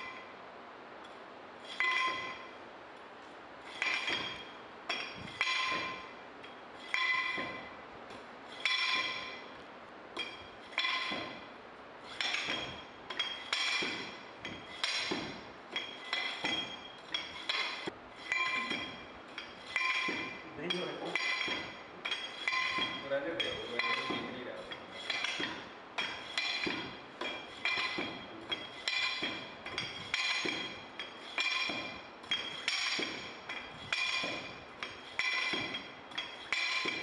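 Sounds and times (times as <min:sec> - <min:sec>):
rammer clanking in metal mould: 0:01.7 - 0:02.6, 0:03.7 - 0:07.8, 0:08.5 - 0:09.6, 0:10.2 - 0:11.5, 0:12.1 - 0:37.0.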